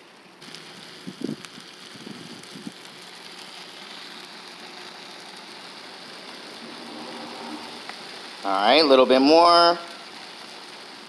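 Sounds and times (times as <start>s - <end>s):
seeds pouring onto wood: 0.1s - 11.0s.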